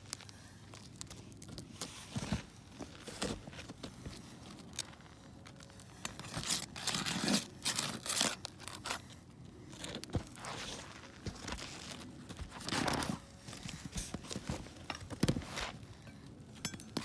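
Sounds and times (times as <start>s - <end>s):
scraping handling noise: 0.1s - 17.0s.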